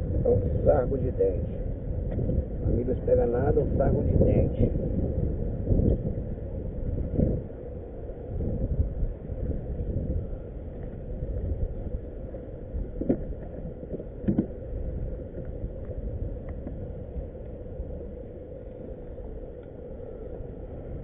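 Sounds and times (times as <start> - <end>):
faint steady hum: 0.0 - 21.0
wind rumbling on microphone: 0.0 - 21.0.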